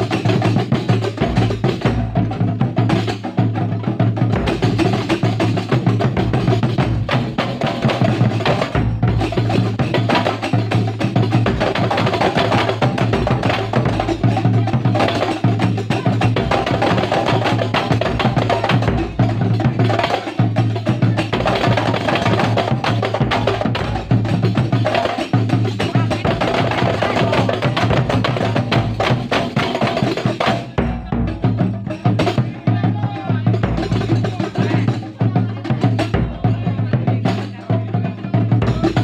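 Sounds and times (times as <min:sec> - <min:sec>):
percussion ensemble drumming: 0:00.0 - 0:39.0.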